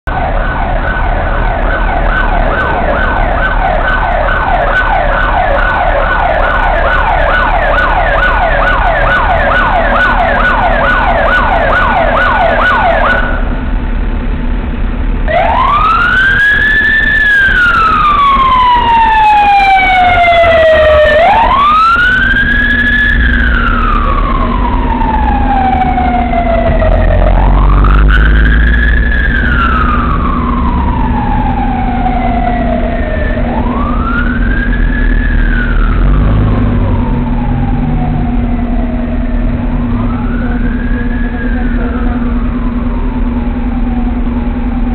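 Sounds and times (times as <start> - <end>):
traffic rumble: 0.0 - 44.9
police siren yelp and wail: 0.1 - 13.7, 15.3 - 44.9.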